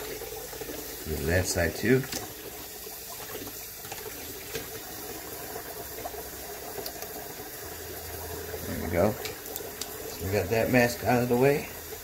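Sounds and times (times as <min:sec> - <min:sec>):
faucet water splashing into sink: 0:00.0 - 0:12.0.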